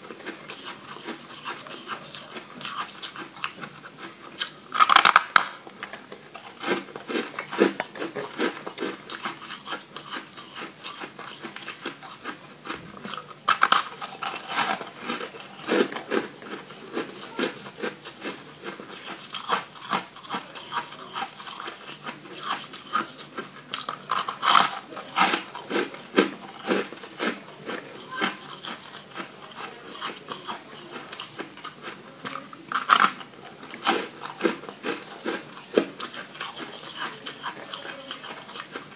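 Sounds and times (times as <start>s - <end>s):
chewing crunchy shaved ice: 0.0s - 38.9s.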